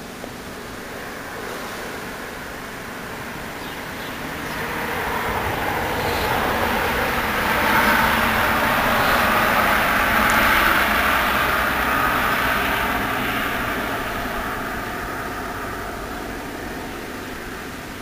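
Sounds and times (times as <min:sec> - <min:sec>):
distant engine rumble: 0:00.4 - 0:18.0.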